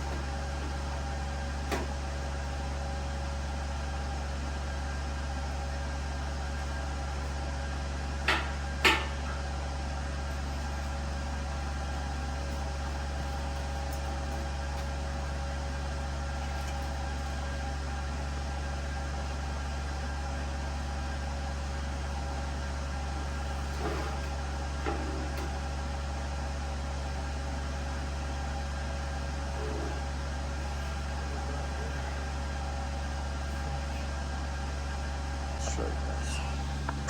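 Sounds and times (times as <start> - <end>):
low workshop hum: 0.0 - 37.0.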